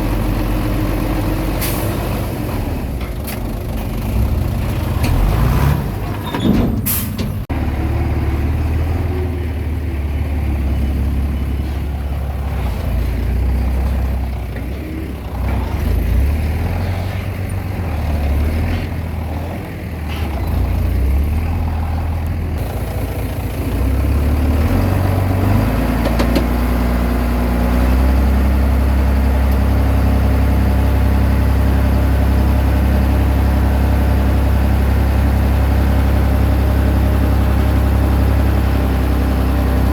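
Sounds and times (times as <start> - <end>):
bulldozer diesel engine working: 0.0 - 39.9.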